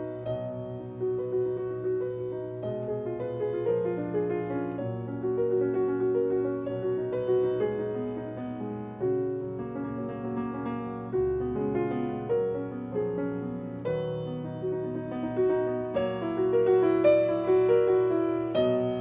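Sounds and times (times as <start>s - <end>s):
solo classical piano: 0.0s - 19.0s.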